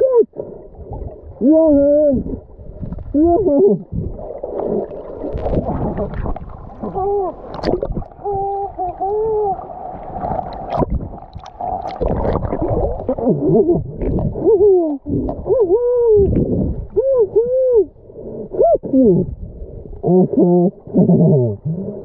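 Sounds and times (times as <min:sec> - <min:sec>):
muffled water sloshing and bubbling: 0:00.0 - 0:22.0.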